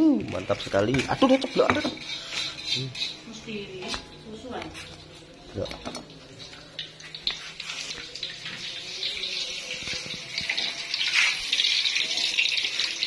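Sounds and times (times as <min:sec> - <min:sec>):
deep-frying crackling sizzle: 0:00.0 - 0:13.0.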